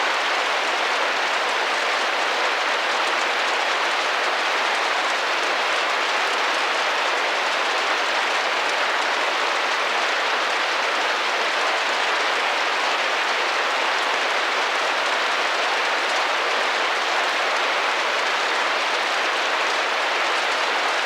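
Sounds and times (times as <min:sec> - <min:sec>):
rain on a window pane: 0:00.0 - 0:21.0.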